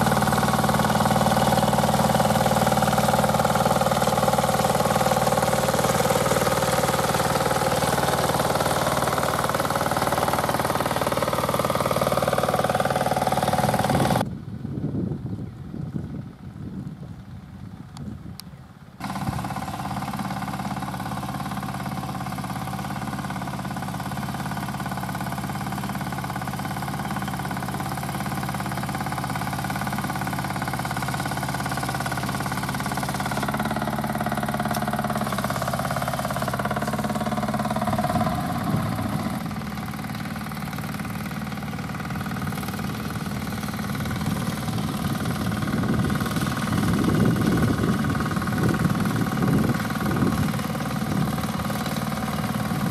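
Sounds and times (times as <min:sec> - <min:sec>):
sickle bar mower cutting hay: 0:00.0 - 0:14.3, 0:19.0 - 0:52.9
diesel tractor engine running: 0:00.0 - 0:52.9.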